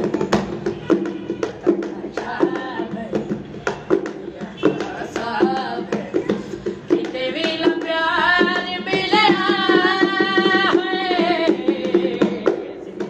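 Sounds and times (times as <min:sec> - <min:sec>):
hand drumming: 0:00.0 - 0:13.0.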